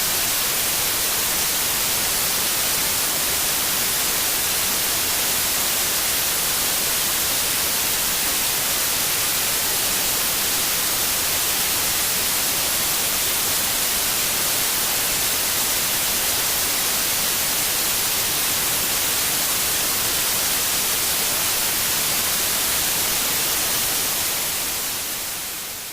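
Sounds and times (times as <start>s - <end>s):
television static hiss: 0.0s - 25.9s.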